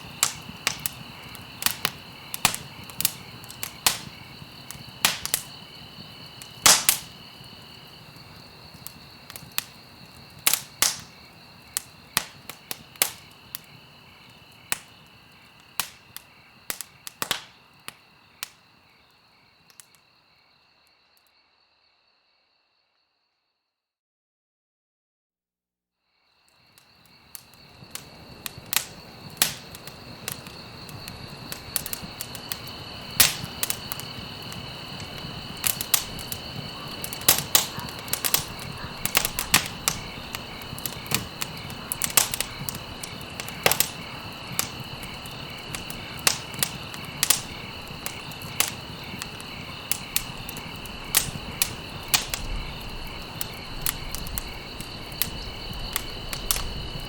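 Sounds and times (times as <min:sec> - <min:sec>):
campfire crackling and popping: 0:00.0 - 0:19.0, 0:26.6 - 0:57.0.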